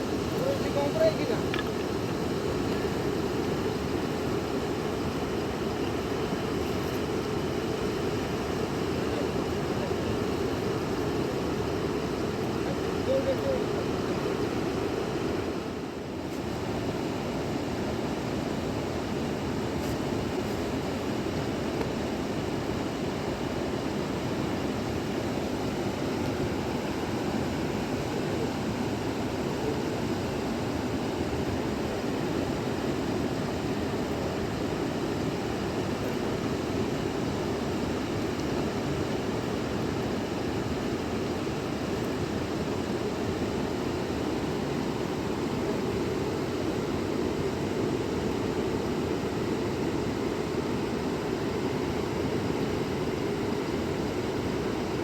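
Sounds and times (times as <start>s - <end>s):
fast-flowing river rushing: 0.0s - 55.0s.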